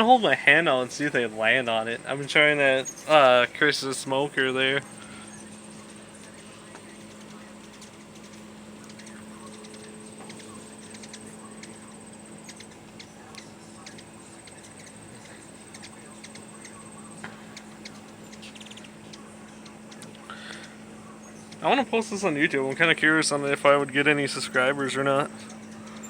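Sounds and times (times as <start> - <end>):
hummingbird chips and squeaks: 0.0 - 26.0
steady low hum: 0.0 - 26.0.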